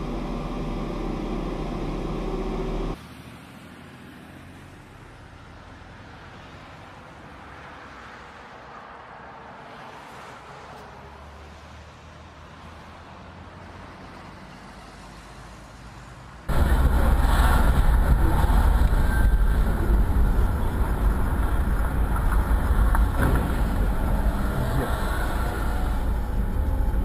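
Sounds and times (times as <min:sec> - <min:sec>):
vehicle rumble and road noise: 0:00.0 - 0:27.0.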